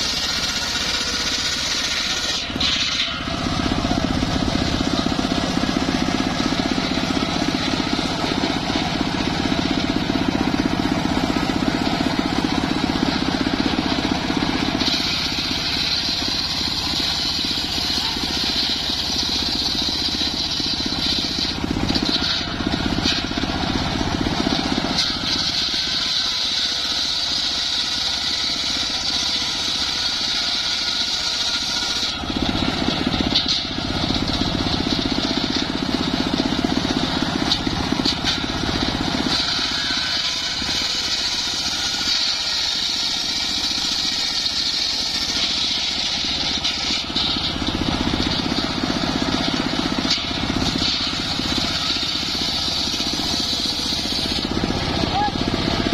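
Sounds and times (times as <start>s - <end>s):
circular saw engine running: 0.0s - 55.9s
saw blade cutting whine: 0.0s - 55.9s.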